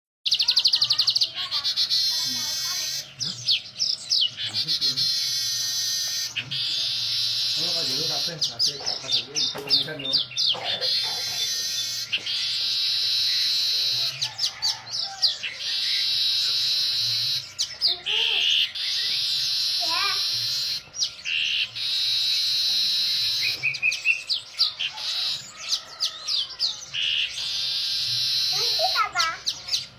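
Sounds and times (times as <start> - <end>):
bird chirps and whistles: 0.3 - 29.9.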